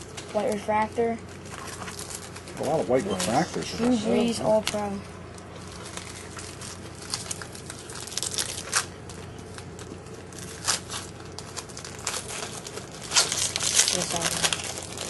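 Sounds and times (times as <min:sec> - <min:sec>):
foil wrappers crinkling and tearing: 0:00.0 - 0:15.0
steady low hum: 0:00.0 - 0:15.0.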